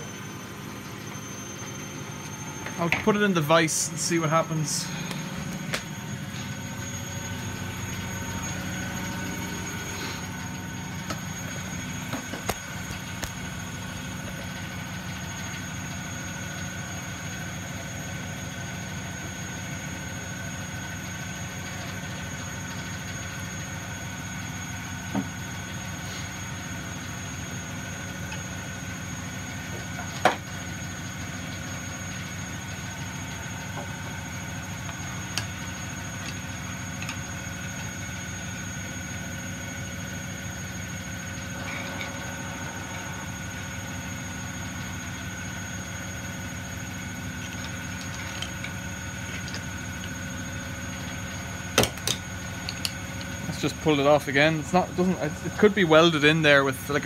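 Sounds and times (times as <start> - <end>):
faint high whine: 0.0 - 18.0, 24.7 - 57.0.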